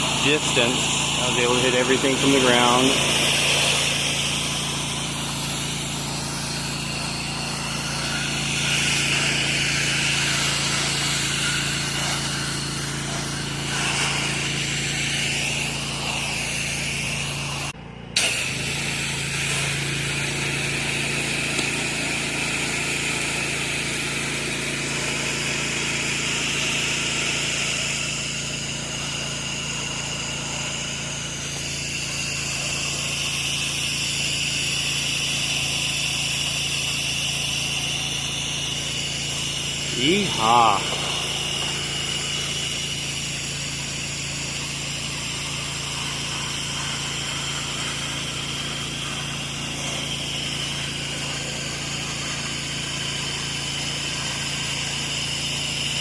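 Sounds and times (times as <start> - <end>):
spray hissing from wand: 0.0 - 17.8, 27.5 - 56.0
pressure washer engine running: 0.0 - 56.0.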